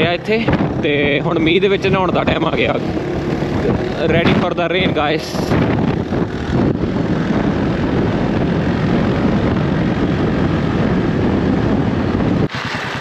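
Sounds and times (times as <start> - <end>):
low vehicle rumble: 0.0 - 13.0
wind buffeting microphone: 0.0 - 13.0.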